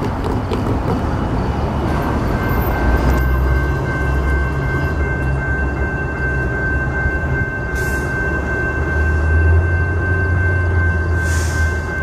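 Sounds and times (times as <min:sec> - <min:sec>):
diesel train rumble: 0:00.0 - 0:12.0
crossing warning bell ringing: 0:01.1 - 0:12.0.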